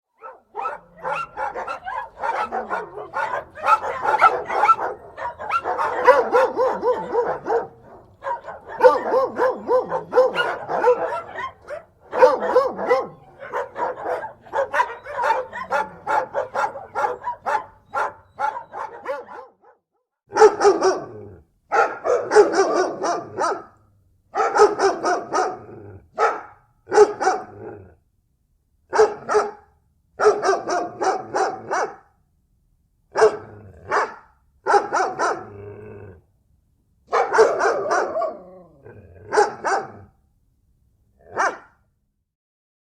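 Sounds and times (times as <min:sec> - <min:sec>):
dog barking: 0:00.1 - 0:27.8, 0:28.9 - 0:32.2, 0:33.1 - 0:35.7, 0:37.1 - 0:40.2, 0:41.2 - 0:41.8.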